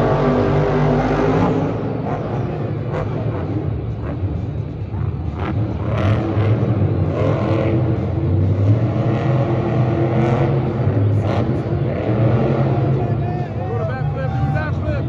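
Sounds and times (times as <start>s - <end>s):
truck engine revving: 0.0s - 13.6s.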